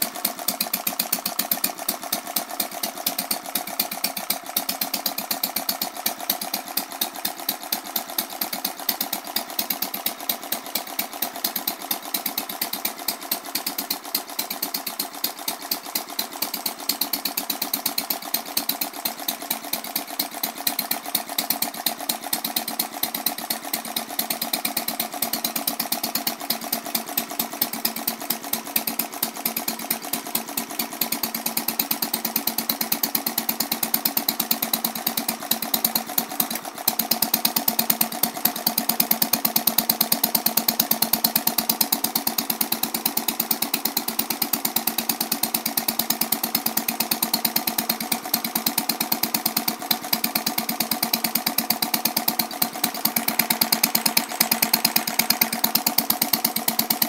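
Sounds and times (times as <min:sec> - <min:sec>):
stationary engine running: 0:00.0 - 0:57.0.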